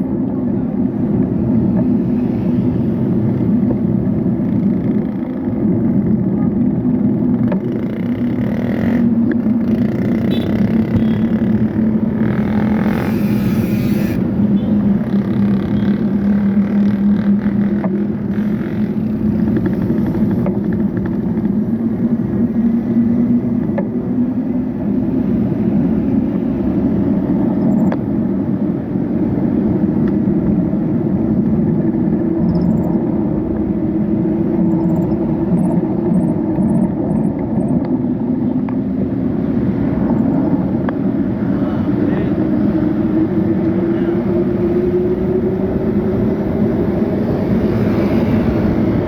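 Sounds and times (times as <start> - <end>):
road noise low rumble: 0.0 - 49.0.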